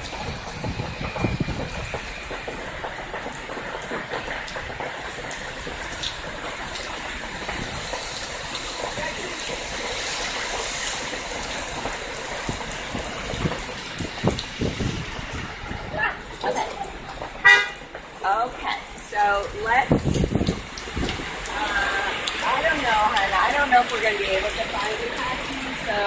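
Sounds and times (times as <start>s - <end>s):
heavy rain on street and cars: 0.0s - 26.0s.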